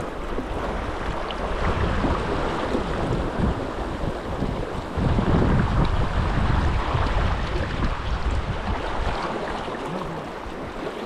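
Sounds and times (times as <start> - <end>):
fast river current rushing: 0.0 - 11.0
wind buffeting microphone: 0.0 - 11.0.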